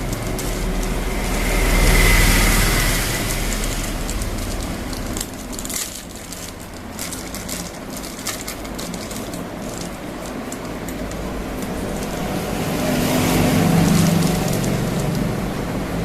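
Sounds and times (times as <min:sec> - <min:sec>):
tyres crunching on debris: 0:00.0 - 0:15.5.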